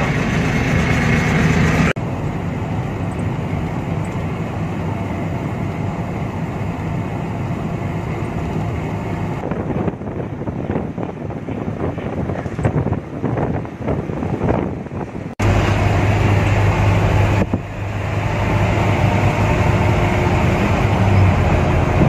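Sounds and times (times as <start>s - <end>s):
truck engine driving: 0.0s - 22.0s.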